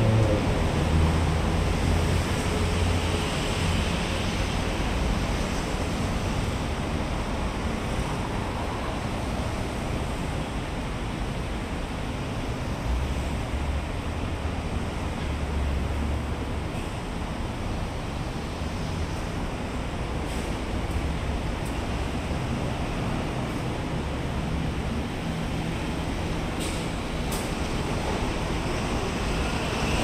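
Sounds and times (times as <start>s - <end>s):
heavy vehicle engine rumble: 0.0s - 30.0s.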